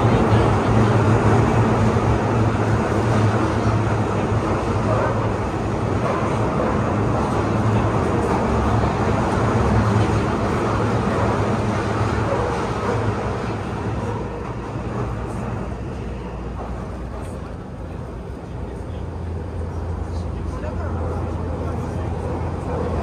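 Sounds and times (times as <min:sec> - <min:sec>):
subway train wheels rumbling: 0:00.0 - 0:23.0.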